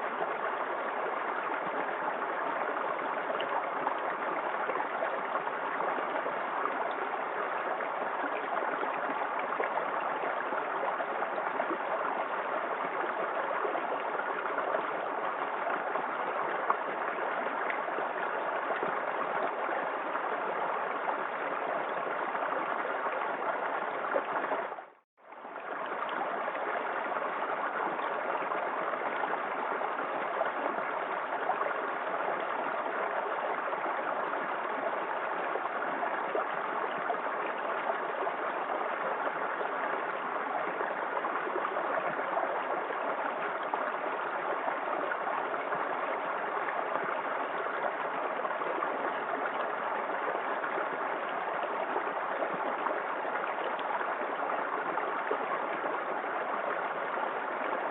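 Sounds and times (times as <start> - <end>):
small waterfall splashing: 0.0 - 57.9.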